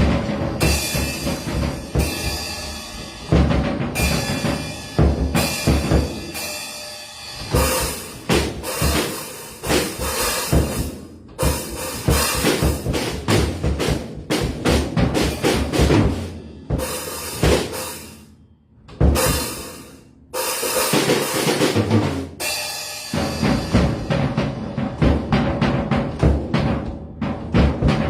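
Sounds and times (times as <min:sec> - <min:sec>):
drum kit playing: 0:00.0 - 0:18.3, 0:18.9 - 0:28.0.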